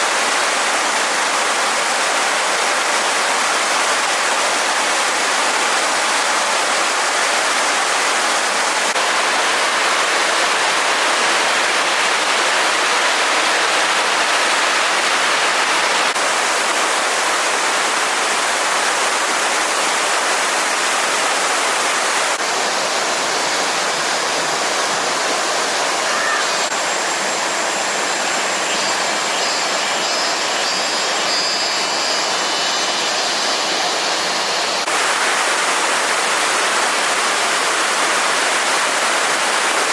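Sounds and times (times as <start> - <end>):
rushing water hissing: 0.0 - 39.9.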